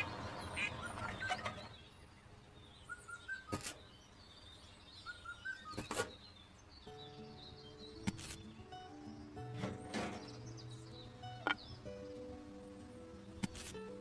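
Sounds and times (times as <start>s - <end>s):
bird chirping rising notes: 0.0s - 13.8s.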